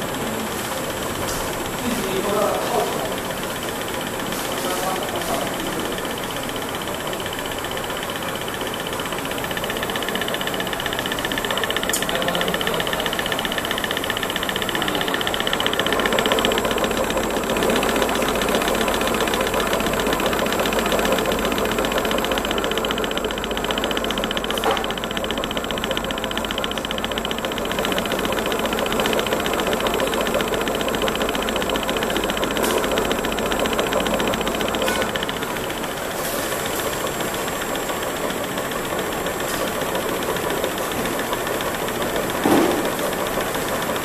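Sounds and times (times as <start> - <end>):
slitting machine humming: 0.0 - 44.0.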